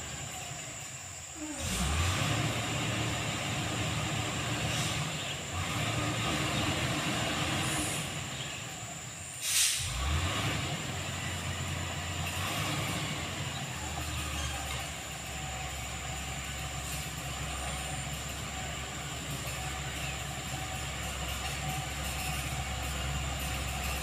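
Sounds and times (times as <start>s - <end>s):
motor grader diesel engine: 0.0s - 24.0s.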